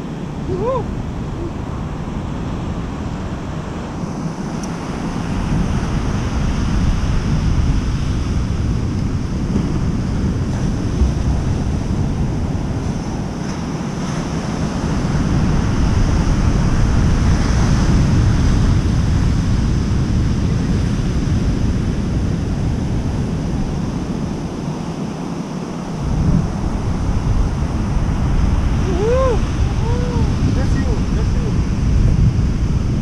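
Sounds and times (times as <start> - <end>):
surf rushing: 0.0 - 33.0
wind buffeting microphone: 0.0 - 33.0.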